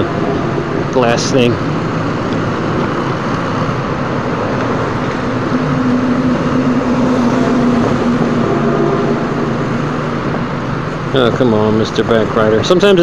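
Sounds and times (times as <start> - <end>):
wind on microphone: 0.0 - 11.3
motorcycle engines: 0.0 - 13.0
traffic noise: 0.0 - 13.0.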